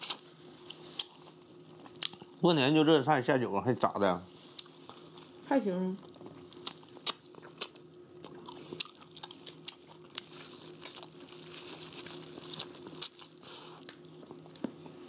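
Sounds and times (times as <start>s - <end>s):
people chewing crunchy food: 0.0s - 2.4s, 4.2s - 15.0s.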